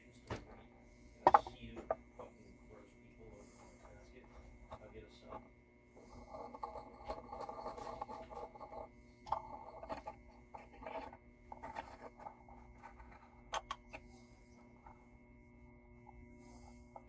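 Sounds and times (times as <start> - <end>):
faint steady hum: 0.0 - 17.0
light scraping and scratching: 0.1 - 15.1.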